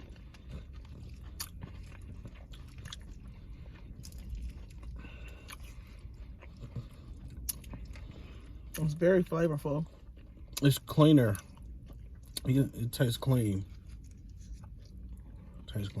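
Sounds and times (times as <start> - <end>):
soft chewing: 0.0 - 16.0.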